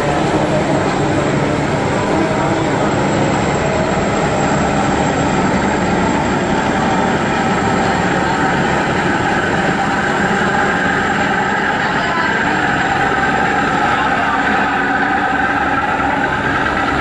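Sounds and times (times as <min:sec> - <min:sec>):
rushing noise: 0:00.0 - 0:17.0
ship engine droning: 0:00.0 - 0:17.0.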